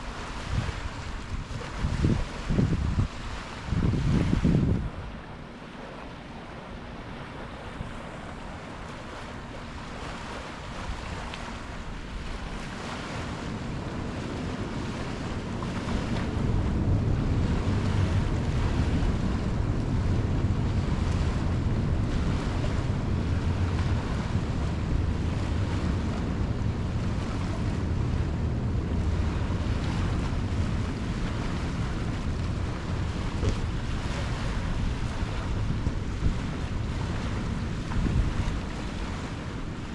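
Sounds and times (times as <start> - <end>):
ocean waves on shore: 0.0 - 39.9
wind buffeting microphone: 0.0 - 39.9.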